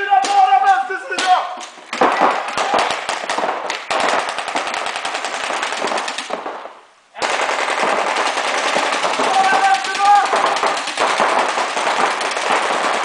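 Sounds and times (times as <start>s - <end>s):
paintball markers firing rapidly: 1.2s - 6.6s, 7.2s - 13.0s.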